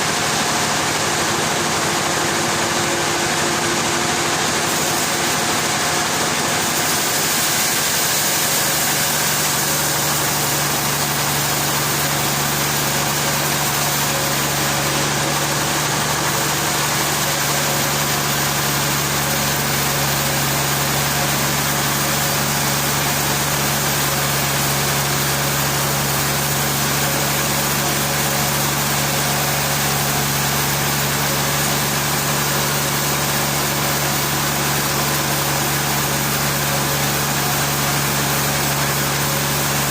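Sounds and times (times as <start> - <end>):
sawmill machinery engine running: 0.0 - 39.9.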